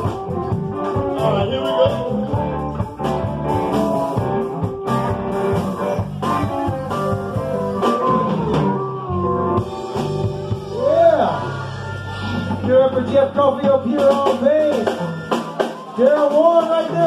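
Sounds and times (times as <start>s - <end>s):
harmonica wailing: 0.0s - 16.3s
drum kit: 0.0s - 17.0s
electric guitars: 0.0s - 17.0s.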